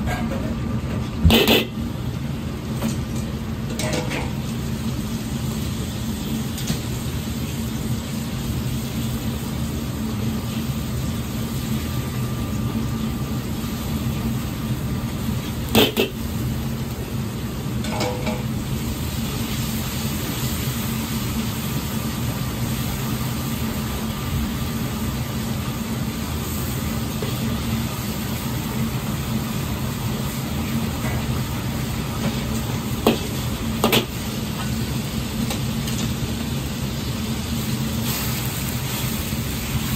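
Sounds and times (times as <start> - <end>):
gas burner noise: 0.0 - 39.9
paste sizzling in hot oil: 4.3 - 39.9.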